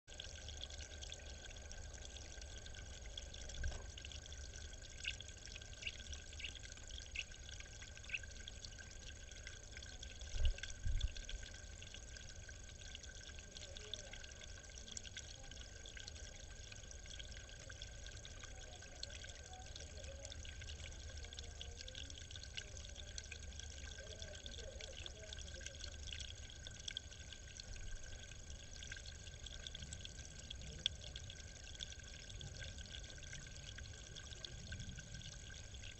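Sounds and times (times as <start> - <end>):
water trickling into pond: 0.1 - 35.9.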